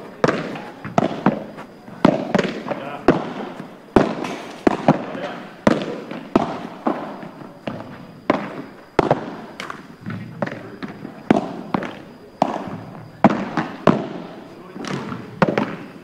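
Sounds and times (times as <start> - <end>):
balls bouncing on court: 0.0 - 16.0
padel balls struck by rackets: 0.0 - 16.0.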